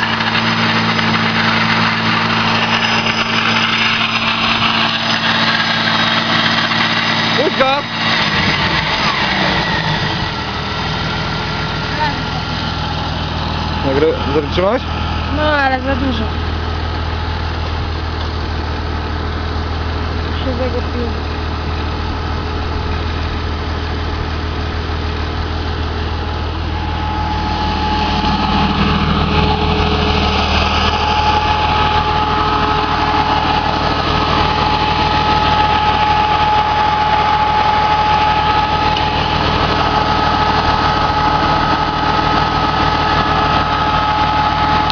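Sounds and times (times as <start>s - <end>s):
atv engine idling: 0.0s - 44.9s
steady high whine: 0.0s - 44.9s.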